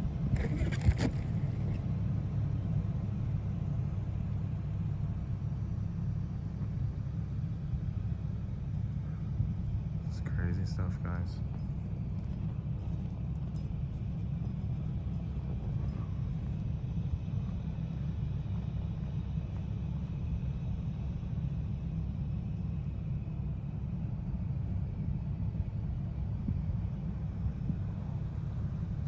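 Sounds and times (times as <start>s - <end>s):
truck engine rumbling: 0.0s - 29.0s.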